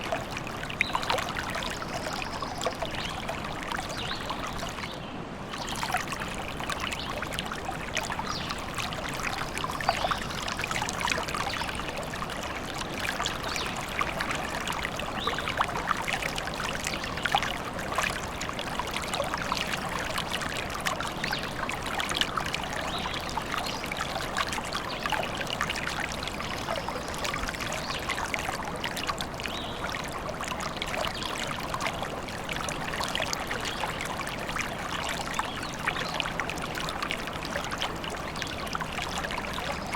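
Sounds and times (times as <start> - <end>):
stream babbling over stones: 0.0 - 4.9, 5.5 - 39.9.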